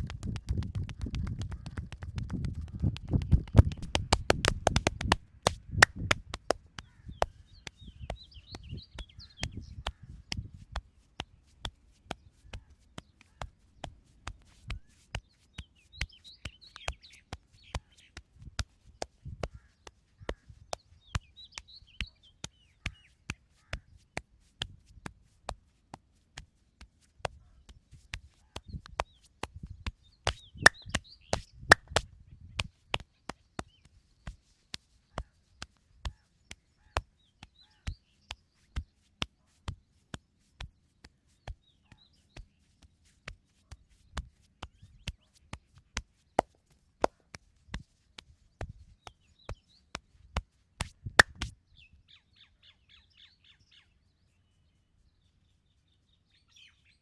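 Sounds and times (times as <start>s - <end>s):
birds chirping faintly: 0.0s - 24.6s, 26.5s - 57.0s
hands slapping and tapping body: 0.0s - 51.6s.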